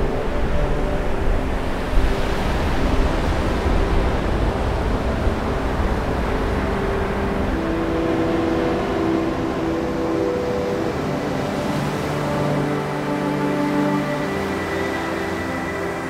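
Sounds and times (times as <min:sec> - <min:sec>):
ocean surf breaking on beach: 0:00.0 - 0:16.0
soft sustained music notes: 0:00.0 - 0:16.0.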